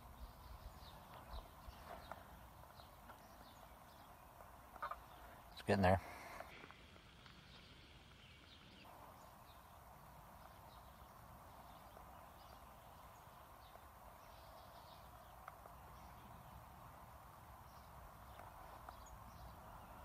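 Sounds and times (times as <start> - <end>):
steady low hiss: 0.0 - 20.0.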